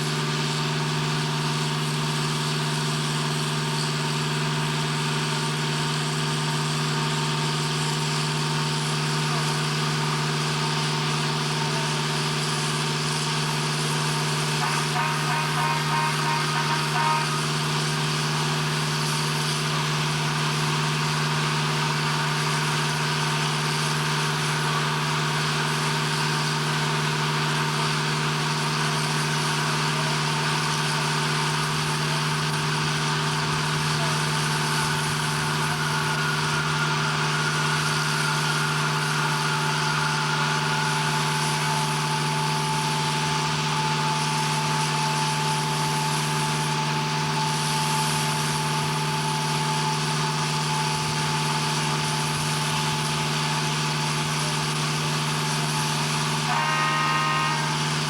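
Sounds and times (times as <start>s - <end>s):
heavy machinery humming: 0.0s - 58.0s.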